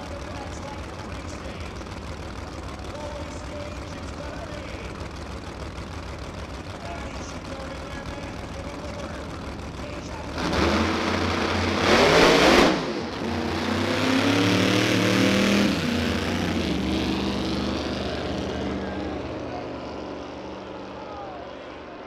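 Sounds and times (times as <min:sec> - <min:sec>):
drag cars accelerating: 0:00.0 - 0:22.0.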